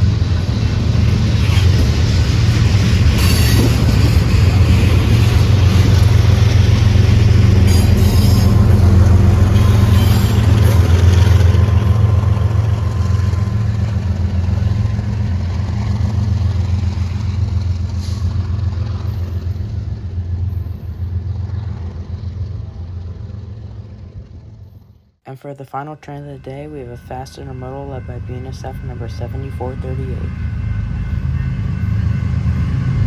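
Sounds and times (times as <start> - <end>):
train rolling noise: 0.0 - 25.1, 26.1 - 33.0
diesel locomotive rumble: 0.0 - 25.2, 25.8 - 33.0.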